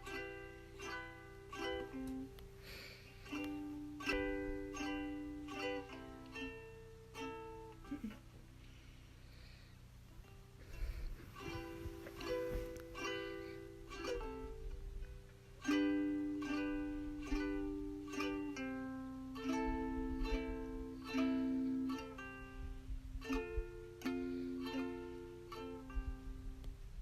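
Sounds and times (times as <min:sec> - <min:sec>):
plucked ukulele melody: 0:00.0 - 0:27.0.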